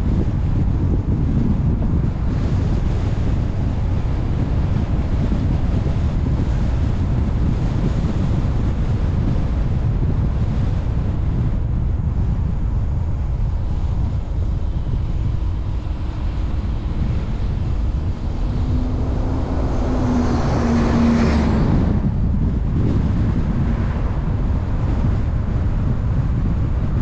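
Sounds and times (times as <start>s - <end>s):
car road and wind rumble: 0.0s - 27.0s
passing vehicle engine and tyres: 0.0s - 27.0s.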